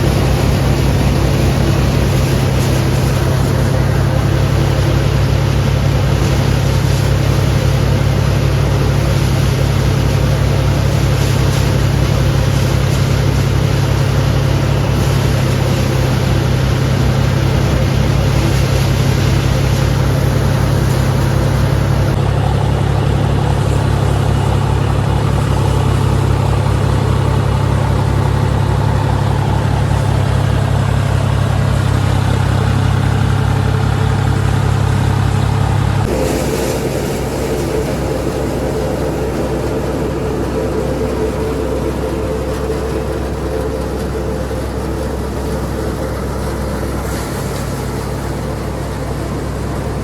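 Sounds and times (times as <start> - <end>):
tractor diesel engine droning: 0.0 - 50.0.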